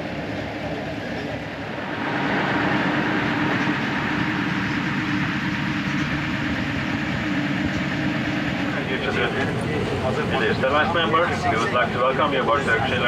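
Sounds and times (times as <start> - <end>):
aircraft cabin hum and air rush: 0.0 - 13.0.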